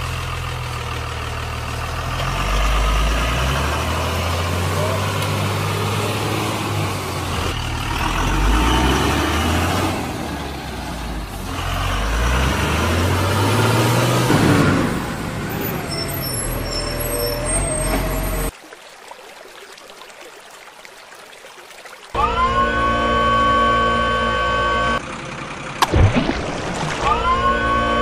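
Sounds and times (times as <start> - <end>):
heavy truck engine revving: 0.0 - 18.5, 22.2 - 25.8, 27.0 - 28.0.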